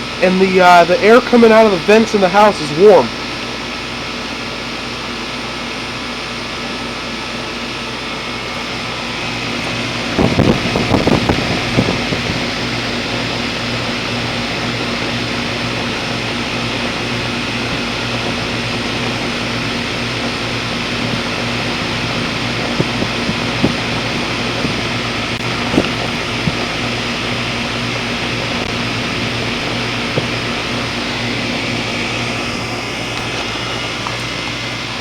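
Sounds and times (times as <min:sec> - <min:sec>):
heat pump humming: 0:00.0 - 0:35.0.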